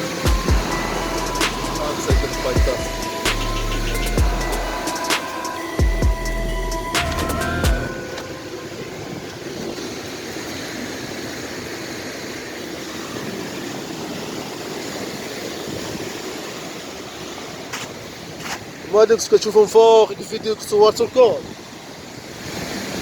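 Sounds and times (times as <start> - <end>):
rough sea surf: 0.0 - 23.0
strong wind: 0.0 - 23.0.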